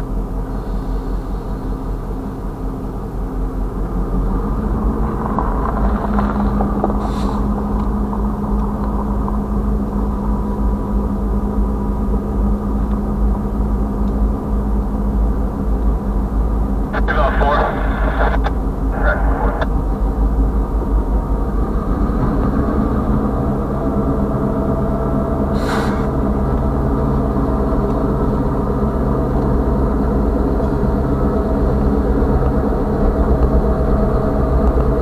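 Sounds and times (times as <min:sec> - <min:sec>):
diesel locomotive engine running: 0:00.0 - 0:35.0.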